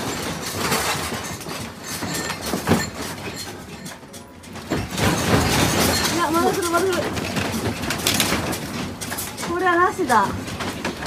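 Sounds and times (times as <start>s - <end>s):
furniture rattling and knocking: 0.0s - 11.0s.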